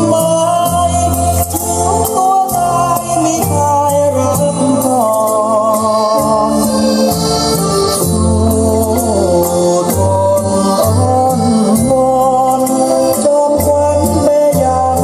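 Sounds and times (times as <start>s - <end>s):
song over loudspeakers: 0.0s - 15.0s.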